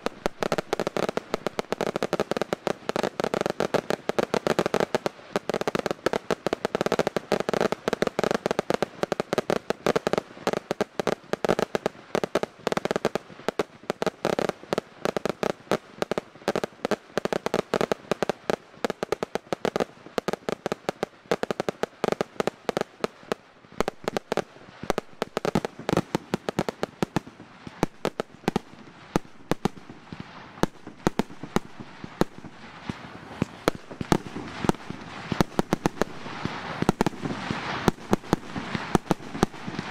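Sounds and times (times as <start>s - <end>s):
firework bangs and cracks: 0.0s - 39.9s.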